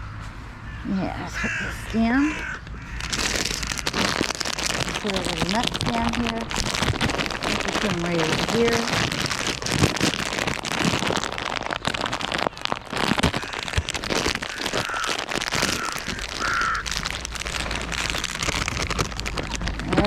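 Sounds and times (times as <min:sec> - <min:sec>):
dense crackling and rustling: 0:01.2 - 0:20.0.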